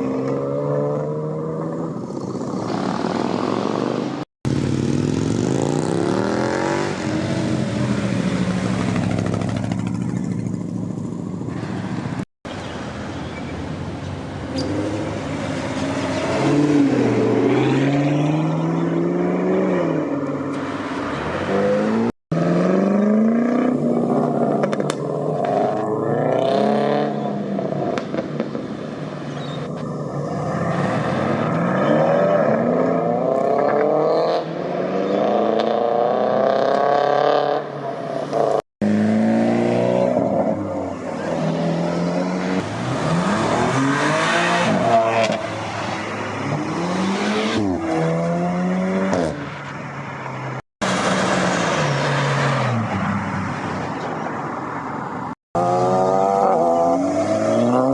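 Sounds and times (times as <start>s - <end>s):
cars accelerating and revving: 0.0s - 12.3s, 13.4s - 57.9s.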